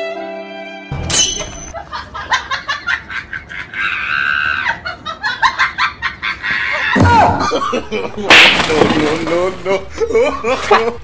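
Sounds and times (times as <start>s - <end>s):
person laughing loudly: 1.8s - 11.0s.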